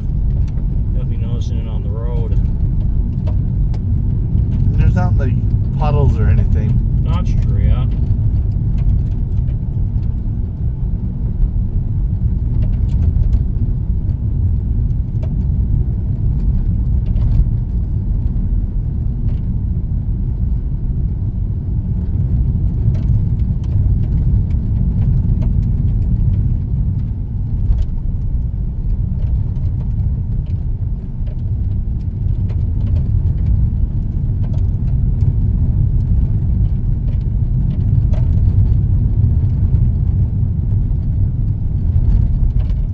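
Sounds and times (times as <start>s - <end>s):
car cabin rumble at speed: 0.0s - 42.9s.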